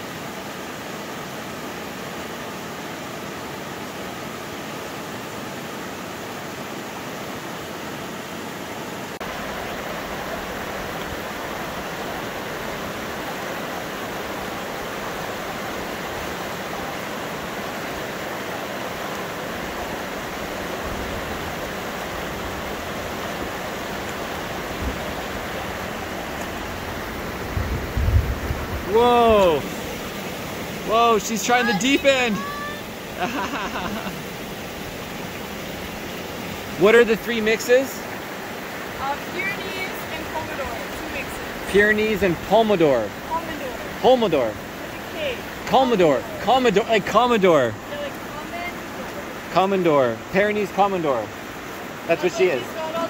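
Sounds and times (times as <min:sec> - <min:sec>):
river rushing over rapids: 0:00.0 - 0:53.0.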